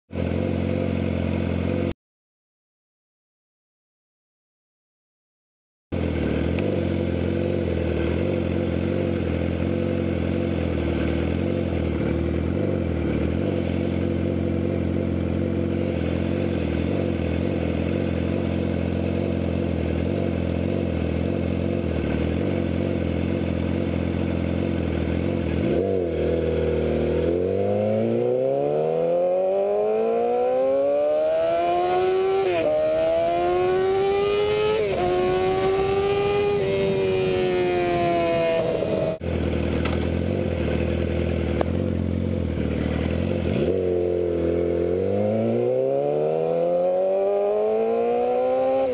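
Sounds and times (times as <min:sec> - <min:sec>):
motorcycle engine revving: 0:00.1 - 0:02.0, 0:05.9 - 0:48.9.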